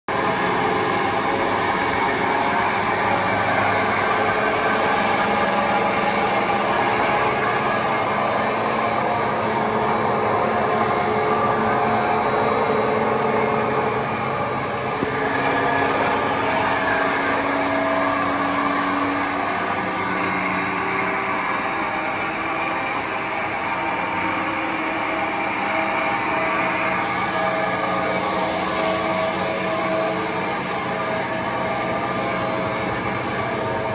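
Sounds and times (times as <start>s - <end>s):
machine whir and hum: 0.1s - 33.9s.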